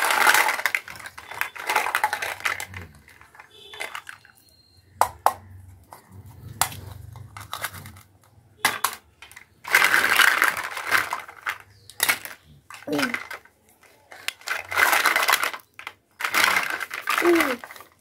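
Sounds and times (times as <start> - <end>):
rasping clatter of toy pieces: 0.0 - 4.3, 5.9 - 18.0
plastic toy pieces clacking: 0.0 - 4.4, 6.6 - 18.0.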